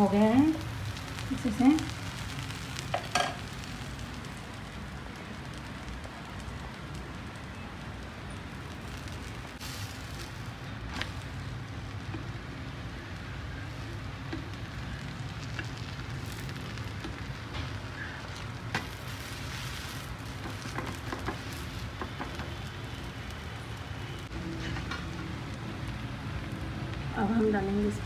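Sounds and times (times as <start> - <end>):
pancake sizzling in oil: 0.0 - 28.0.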